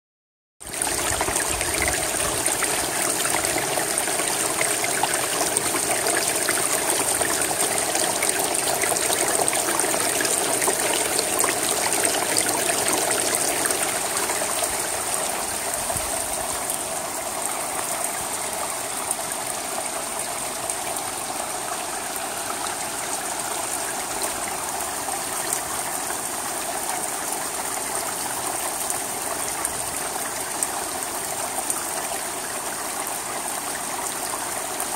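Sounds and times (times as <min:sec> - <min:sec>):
rain on a shingle roof: 0:00.6 - 0:34.9
water running over shingles: 0:00.6 - 0:34.9.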